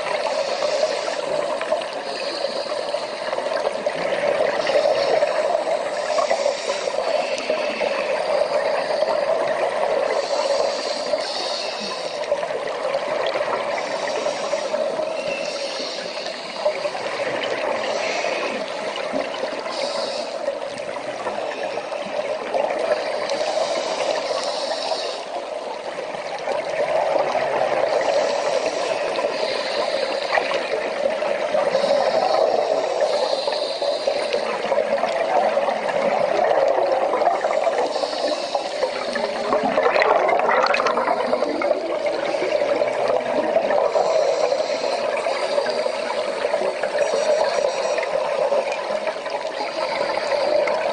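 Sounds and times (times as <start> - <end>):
underwater watery rush: 0.0 - 50.9.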